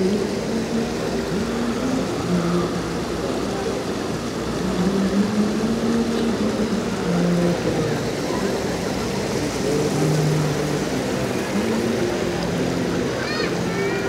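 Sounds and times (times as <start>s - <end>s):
people talking: 0.0s - 14.0s
stream rushing over stones: 0.0s - 14.0s.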